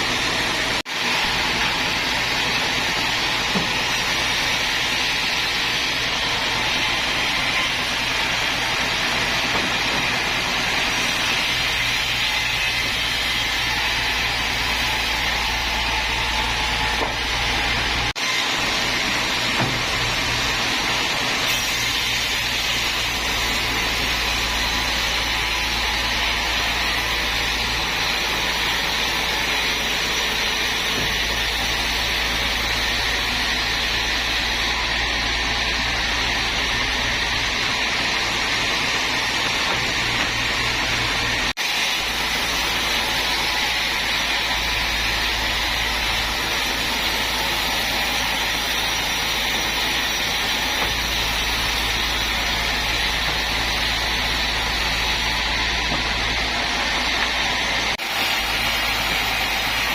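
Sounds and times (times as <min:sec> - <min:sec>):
sawmill machinery hissing: 0:00.0 - 0:59.9.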